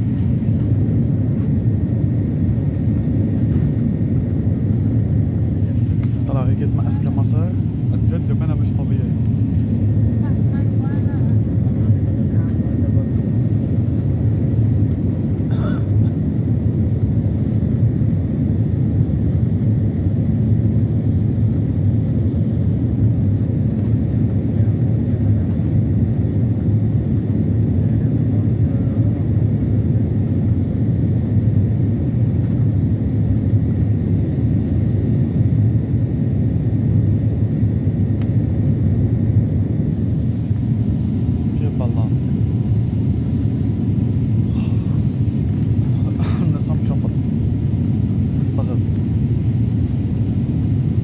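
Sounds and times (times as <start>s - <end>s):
jet engine rumble and airflow: 0.0s - 51.0s.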